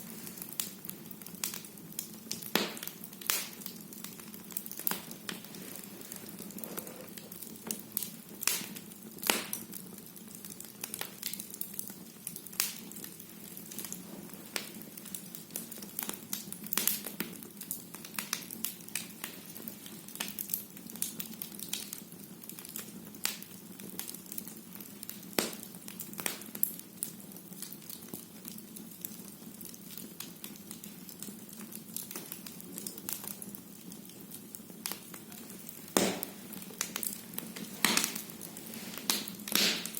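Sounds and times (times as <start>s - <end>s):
fire crackling and popping: 0.0s - 39.9s
soft hiss of flames: 0.0s - 39.9s.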